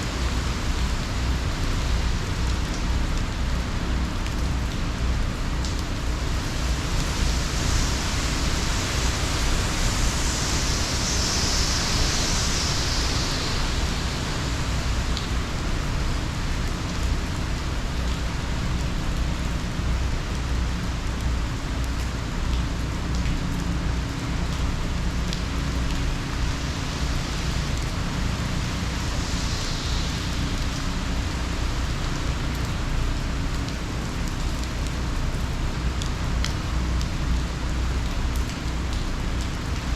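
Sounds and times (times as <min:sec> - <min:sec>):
heavy rain and wind hiss: 0:00.0 - 0:39.9.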